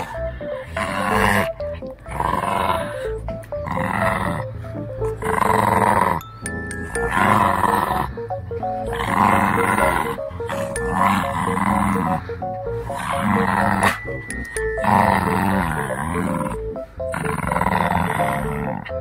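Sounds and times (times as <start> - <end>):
puppy growling: 0.0 - 6.2, 6.8 - 19.0
light music with plucked notes: 0.0 - 19.0.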